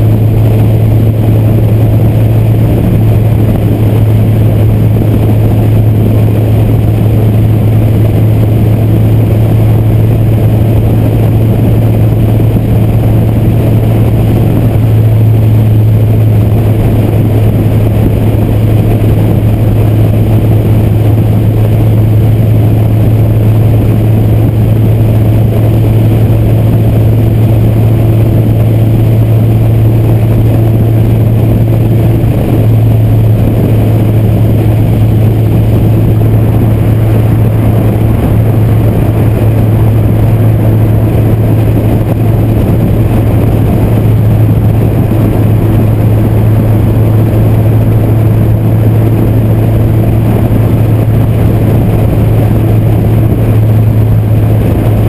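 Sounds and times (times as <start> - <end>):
car engine drone: 0.0 - 55.0
road noise: 0.0 - 55.0
wind noise: 0.0 - 55.0.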